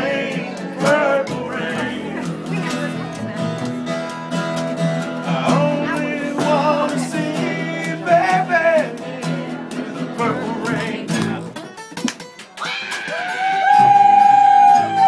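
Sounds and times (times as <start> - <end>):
upright bass: 0.0 - 12.2
acoustic guitar strumming: 0.0 - 15.0.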